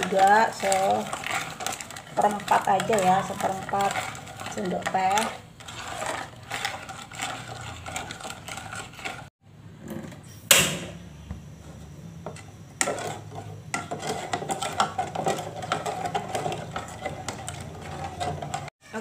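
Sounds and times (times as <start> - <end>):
spoon stirring in saucepan: 0.0 - 9.3, 11.6 - 18.7.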